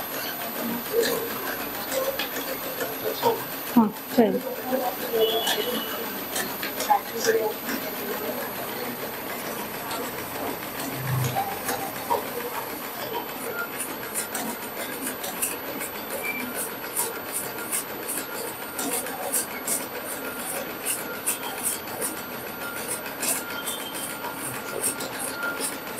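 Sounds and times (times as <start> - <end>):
embroidery machine running: 0.0 - 25.9
sharp machine clicks: 0.1 - 25.9.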